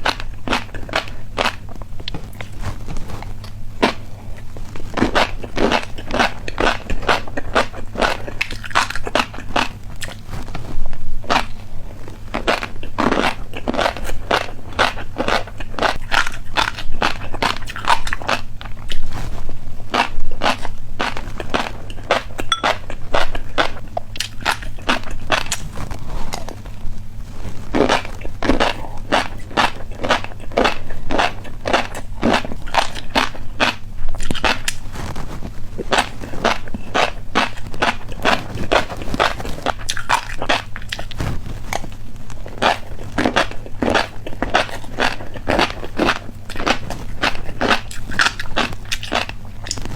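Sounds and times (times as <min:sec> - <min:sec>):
person chewing crunchy snack: 0:00.0 - 0:49.9.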